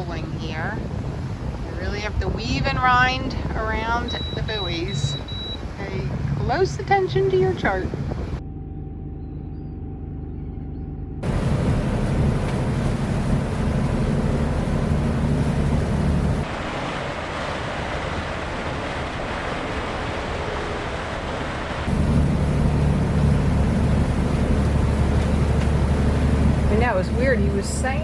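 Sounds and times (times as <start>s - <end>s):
rushing wind: 0.0s - 8.4s, 11.2s - 28.0s
water noise: 0.0s - 8.8s, 11.2s - 28.0s
boat engines droning: 0.0s - 28.0s.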